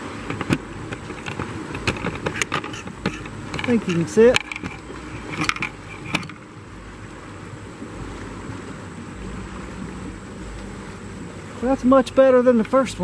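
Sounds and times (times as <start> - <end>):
choppy water around a kayak: 0.0 - 13.0
wind buffeting the microphone: 0.0 - 13.0.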